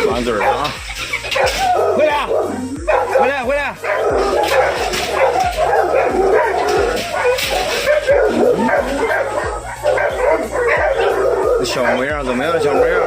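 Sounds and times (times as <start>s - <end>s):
puppies whimpering and yelping: 0.0s - 13.0s.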